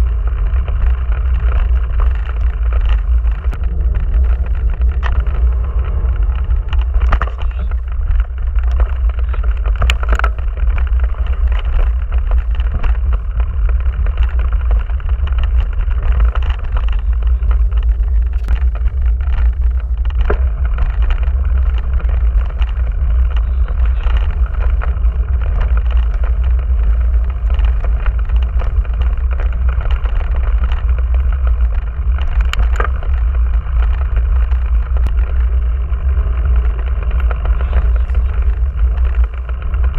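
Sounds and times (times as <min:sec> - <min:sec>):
bike knocks and rattles: 0:00.0 - 0:39.9
bike tyres rumbling on dirt: 0:00.0 - 0:39.9.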